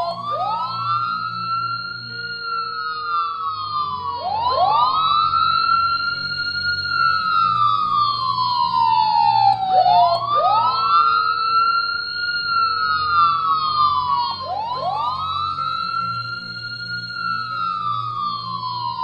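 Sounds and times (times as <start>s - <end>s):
wailing emergency siren: 0.0s - 19.0s.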